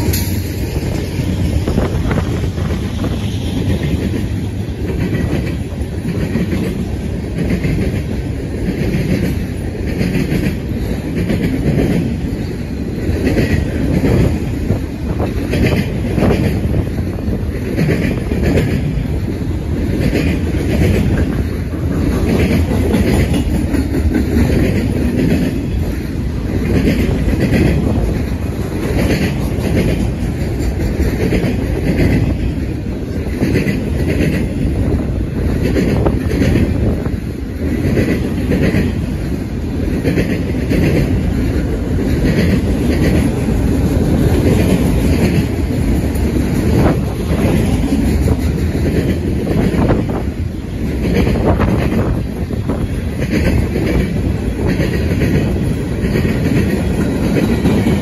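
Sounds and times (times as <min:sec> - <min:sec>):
steel wheels rumbling on rail: 0:00.0 - 0:58.0
train wheels clickety-clack: 0:00.0 - 0:58.0.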